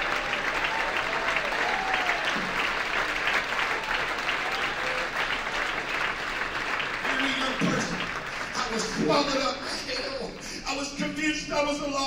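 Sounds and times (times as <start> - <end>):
congregation applauding: 0.0 - 11.3.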